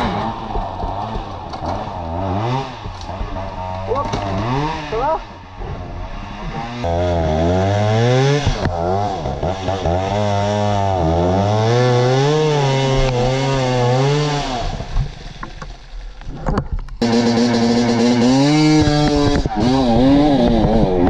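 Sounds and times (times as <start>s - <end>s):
dirt bike engine revving: 0.0s - 15.4s, 17.0s - 21.0s
closer engine at steady rev: 0.0s - 15.7s, 16.9s - 21.0s.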